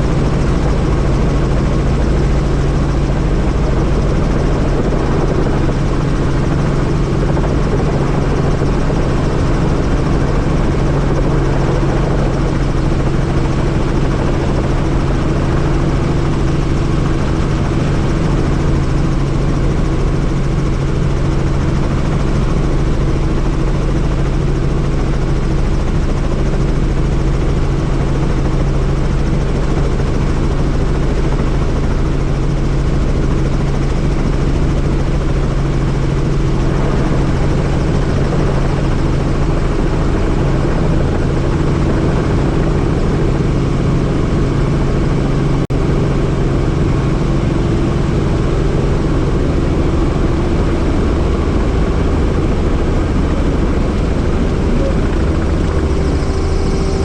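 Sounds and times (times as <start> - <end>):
helicopter rotor and engine drone: 0.0 - 57.0.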